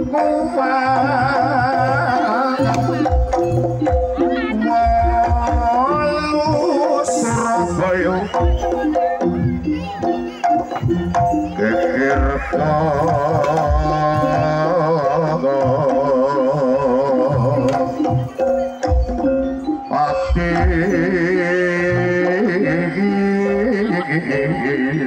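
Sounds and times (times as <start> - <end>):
hand drum beats: 0.0 - 24.2.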